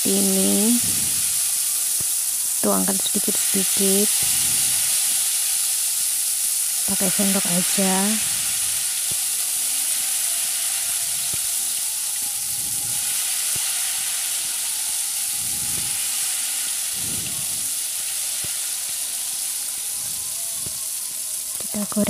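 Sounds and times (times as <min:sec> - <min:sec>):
batter sizzling in hot oil: 0:00.0 - 0:22.0.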